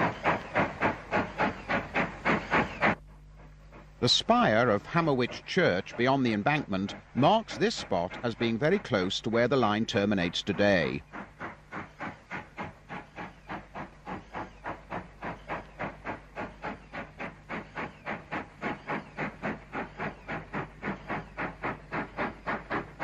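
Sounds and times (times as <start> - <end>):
steam locomotive chuffing: 0.0 - 23.0.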